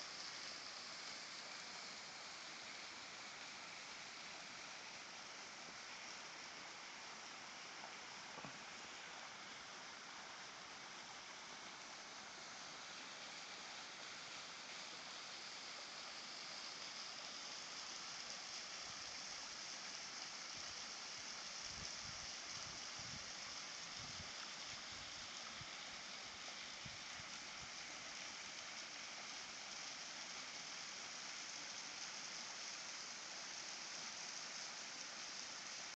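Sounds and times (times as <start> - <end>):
small waterfall splashing: 0.0 - 36.0.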